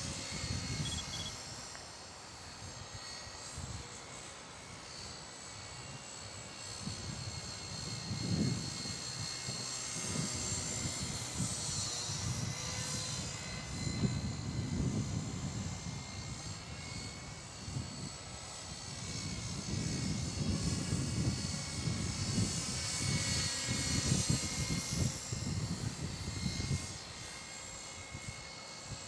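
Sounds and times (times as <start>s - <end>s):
rc helicopter motor whine: 0.0s - 29.0s.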